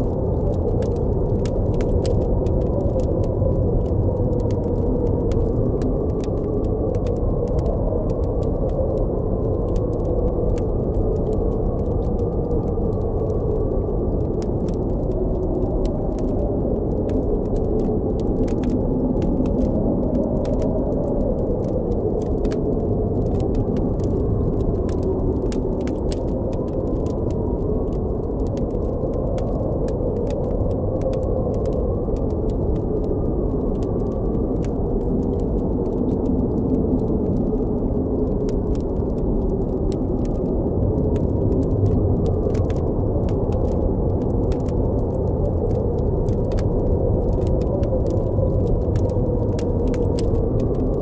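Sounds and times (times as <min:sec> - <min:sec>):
campfire crackling: 0:00.0 - 0:51.0
howling blizzard wind: 0:00.0 - 0:51.0.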